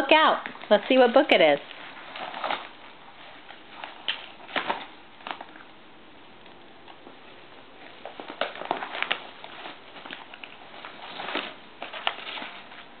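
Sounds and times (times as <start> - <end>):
paper packaging rustling and crinkling: 0.5 - 5.7, 7.6 - 13.0.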